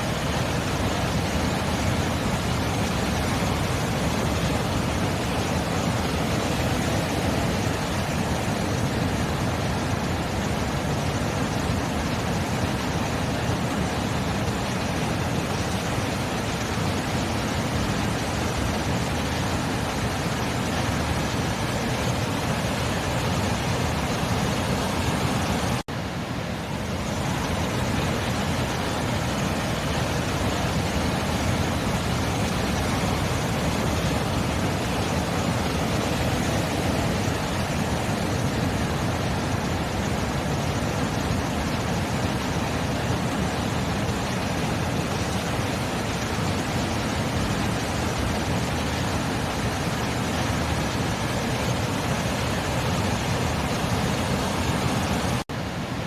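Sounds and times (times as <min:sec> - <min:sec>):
sea surf rushing: 0:00.0 - 0:56.0.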